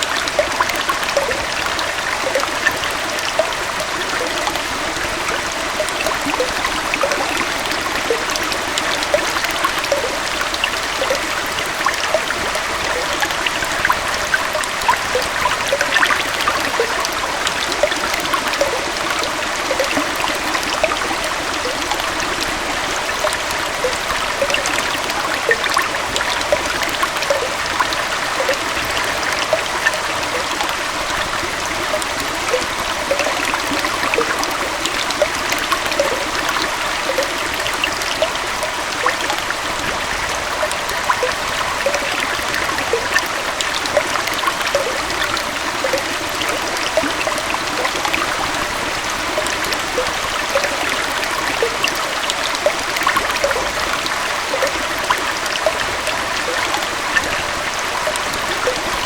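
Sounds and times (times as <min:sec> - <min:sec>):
waterfall and stream flowing: 0:00.0 - 0:59.0.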